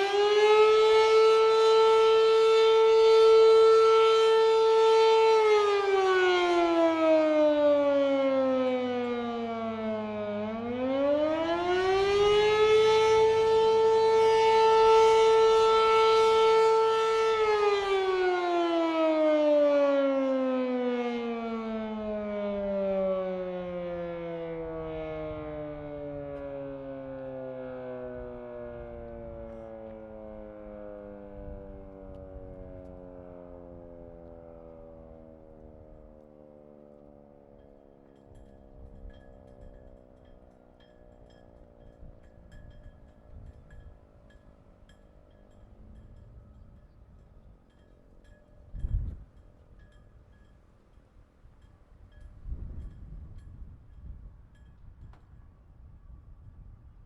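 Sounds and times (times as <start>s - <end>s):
warning siren wailing: 0.0s - 50.5s.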